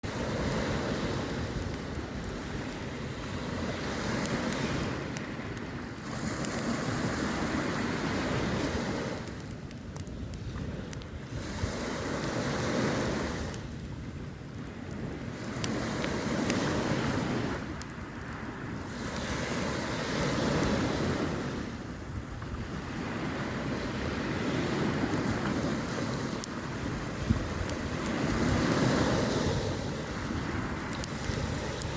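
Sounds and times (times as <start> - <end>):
sea waves breaking on beach: 0.0 - 31.9
wind: 0.0 - 31.9.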